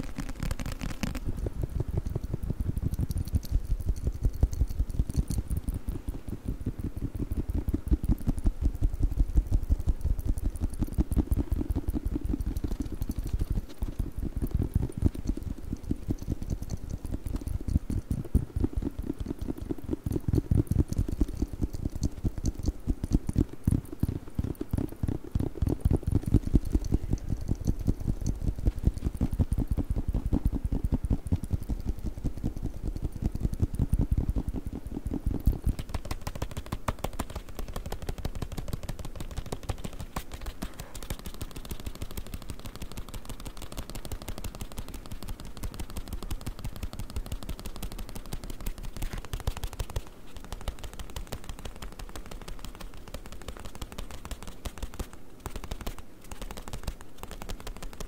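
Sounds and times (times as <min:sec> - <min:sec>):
fast tapping on a book: 0:00.0 - 0:58.0.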